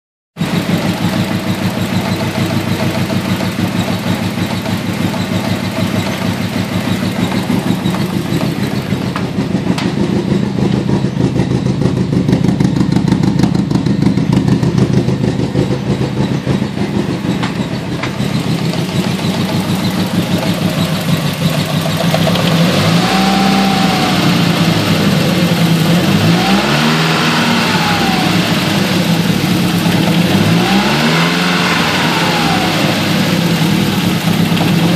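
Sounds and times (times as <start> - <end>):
car engine idling with misfire: 0.4 - 34.9
engine revving: 0.4 - 34.9.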